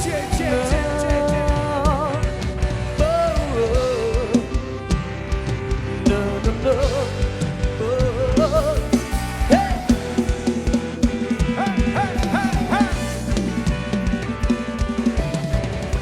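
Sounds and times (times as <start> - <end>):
bass: 0.0 - 16.0
drum kit beat: 0.0 - 16.0
lead melody with pitch bends: 0.0 - 16.0.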